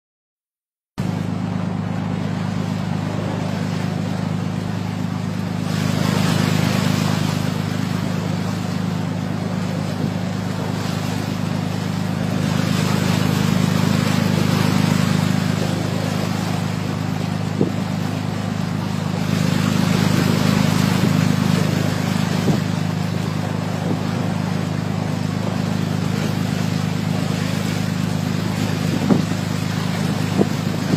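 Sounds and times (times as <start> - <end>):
rushing water: 1.0 - 30.9
speedboat engine droning: 1.0 - 30.9
wind: 1.0 - 30.9.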